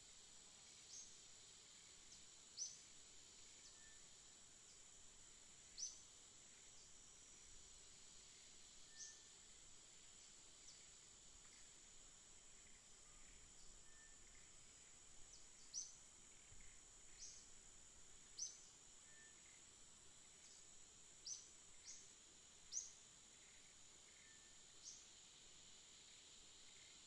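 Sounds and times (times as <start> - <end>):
high insect trill: 0.1 - 27.0.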